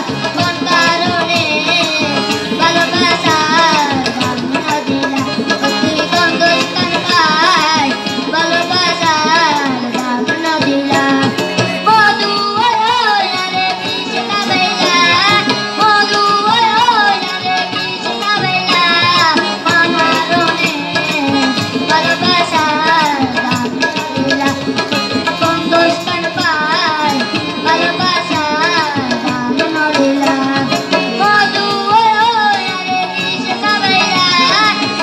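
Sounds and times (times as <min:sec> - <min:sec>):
boy singing through speakers: 0:00.0 - 0:35.0
harmonium: 0:00.0 - 0:35.0
tabla drum strokes: 0:00.0 - 0:35.0
violin: 0:00.0 - 0:35.0.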